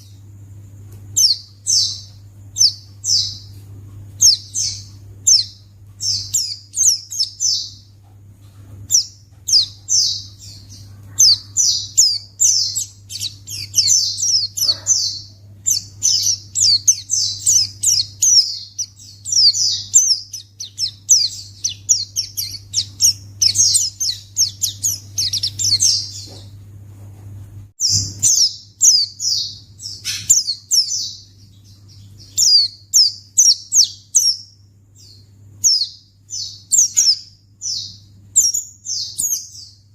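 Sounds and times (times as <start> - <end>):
steady low hum: 0.0 - 39.9
bird singing high chirps: 1.2 - 3.6, 4.2 - 8.0, 8.9 - 26.4, 27.8 - 39.9.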